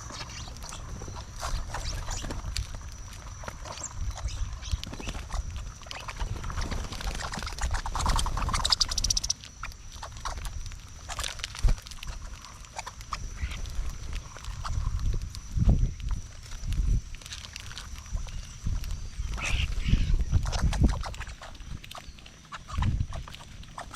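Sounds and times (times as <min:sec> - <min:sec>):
birds tapping and pecking: 0:00.0 - 0:23.9
wind rumble on microphone: 0:00.0 - 0:23.9.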